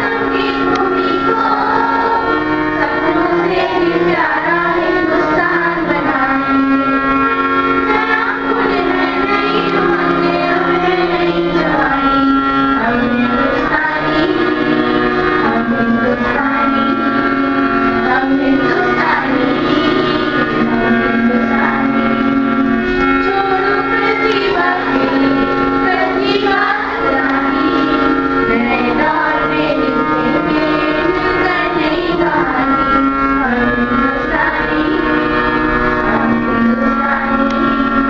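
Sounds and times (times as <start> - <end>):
students singing in unison: 0.0 - 38.0
sustained accompanying notes: 0.0 - 38.0.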